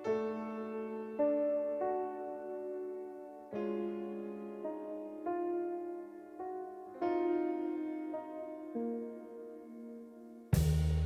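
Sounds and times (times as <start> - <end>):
piano chords: 0.0 - 10.6.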